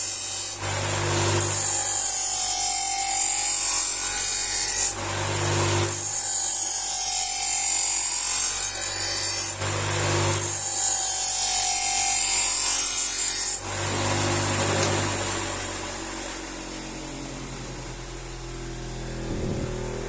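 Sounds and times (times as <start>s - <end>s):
grinder motor hum: 0.0s - 20.0s.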